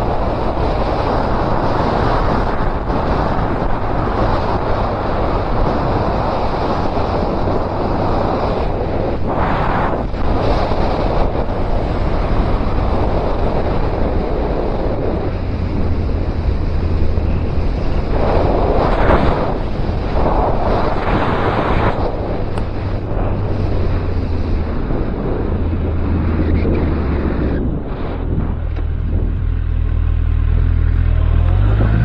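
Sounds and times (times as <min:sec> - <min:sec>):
motorcycle engine drone: 0:00.0 - 0:32.0
wind rushing over microphone: 0:00.0 - 0:32.0.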